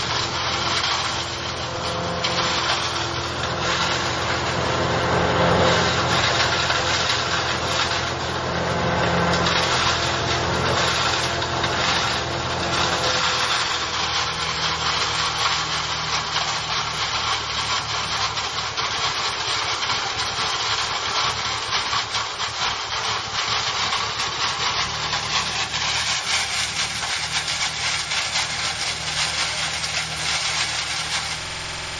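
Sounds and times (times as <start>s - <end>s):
fodder blower rushing: 0.0s - 31.9s
tractor engine running: 0.0s - 31.9s.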